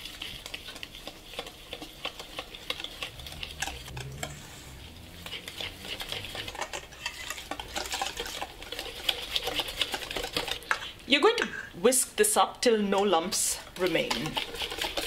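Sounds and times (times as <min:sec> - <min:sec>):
whisk beating batter in bowl: 0:00.0 - 0:10.9, 0:13.0 - 0:15.0.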